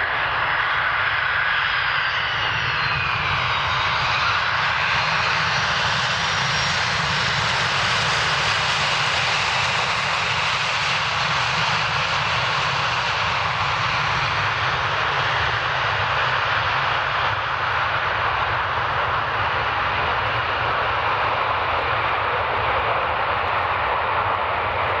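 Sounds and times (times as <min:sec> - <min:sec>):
jet engines rushing and rumbling: 0:00.0 - 0:25.0.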